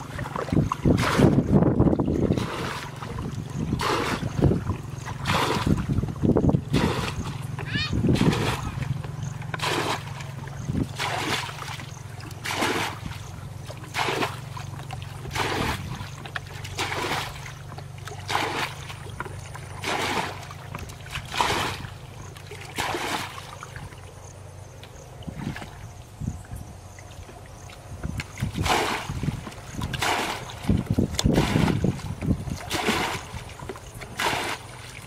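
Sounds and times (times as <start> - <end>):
water splashing from basin: 0.0 - 26.0, 27.0 - 35.0
steady low hum: 0.0 - 35.0.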